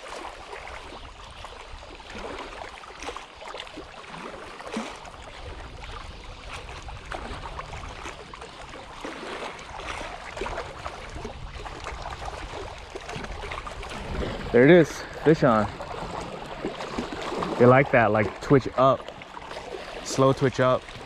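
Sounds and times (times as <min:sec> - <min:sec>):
small splashes: 0:00.0 - 0:21.0
water lapping against rocks: 0:00.0 - 0:21.0.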